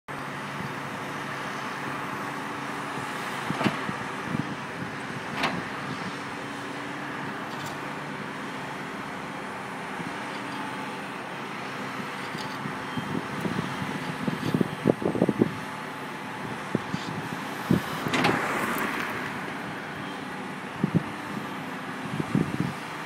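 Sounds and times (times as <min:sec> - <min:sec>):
excavator diesel engine running: 0:00.1 - 0:23.0.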